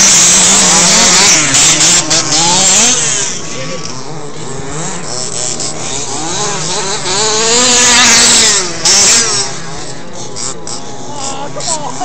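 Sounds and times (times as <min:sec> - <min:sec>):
radio-controlled car motors revving: 0:00.0 - 0:12.0.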